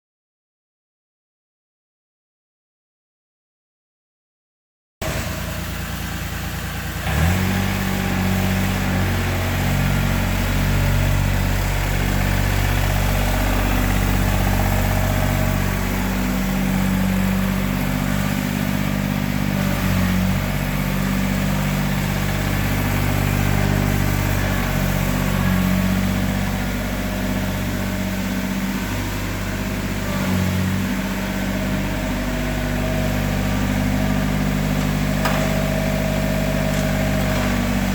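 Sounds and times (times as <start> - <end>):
diesel engine cranking: 5.0 - 37.9
diesel engine idling: 5.0 - 37.9.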